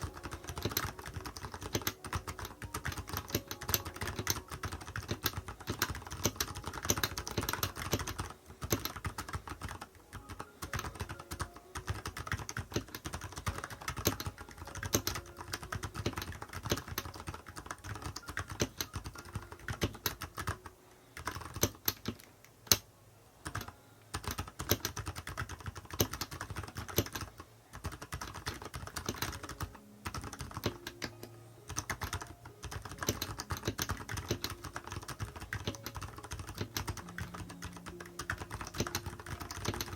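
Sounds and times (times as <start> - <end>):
mechanical keyboard typing: 0.0 - 22.8, 23.4 - 39.9.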